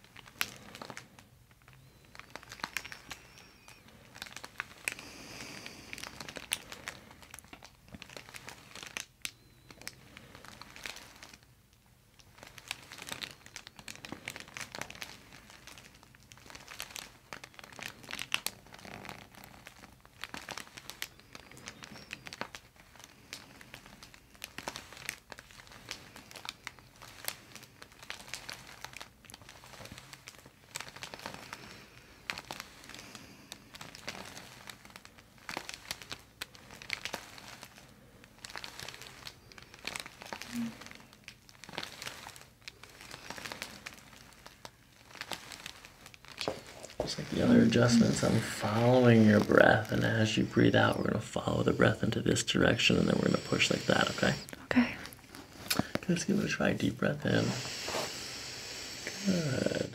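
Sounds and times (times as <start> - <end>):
paper crinkling and rustling: 0.0 - 58.0.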